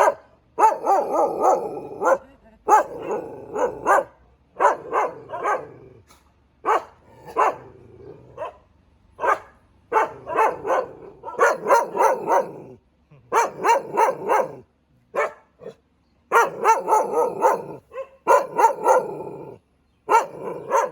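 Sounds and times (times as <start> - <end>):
dog barking: 0.0 - 5.8, 6.6 - 20.9.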